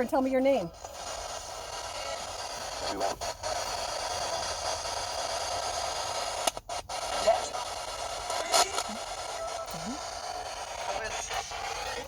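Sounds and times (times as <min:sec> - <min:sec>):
radio static hissing: 0:00.0 - 0:12.0.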